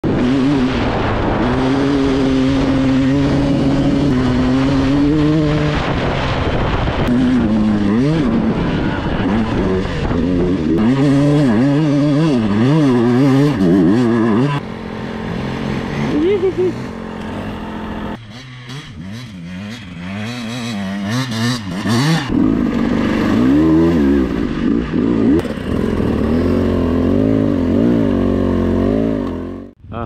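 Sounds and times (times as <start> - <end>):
dirt bike engine revving: 0.0 - 29.8.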